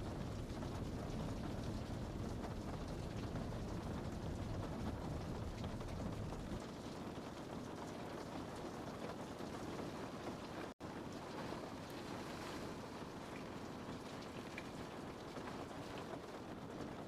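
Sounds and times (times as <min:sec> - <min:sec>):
rain on a window pane: 0:00.0 - 0:17.0.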